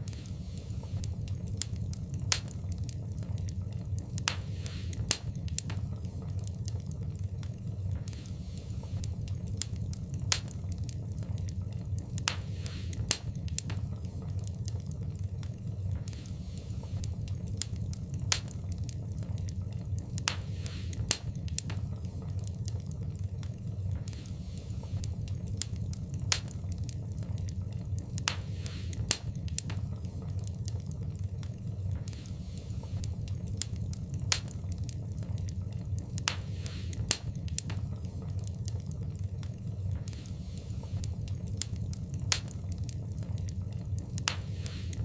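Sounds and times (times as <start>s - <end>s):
fire crackling and popping: 0.0s - 45.0s
low rumble of flame: 0.0s - 45.0s.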